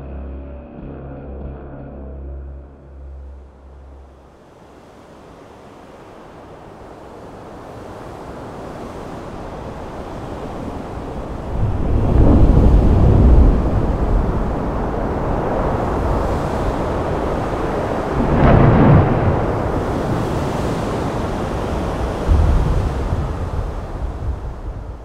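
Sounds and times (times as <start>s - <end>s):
wind: 2.6s - 25.0s
waves crashing: 4.1s - 25.0s.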